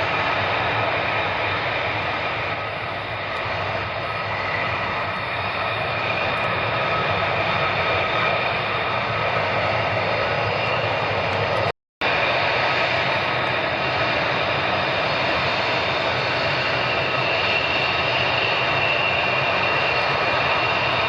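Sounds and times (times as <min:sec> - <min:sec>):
fighter jet engine rushing: 0:00.0 - 0:21.0.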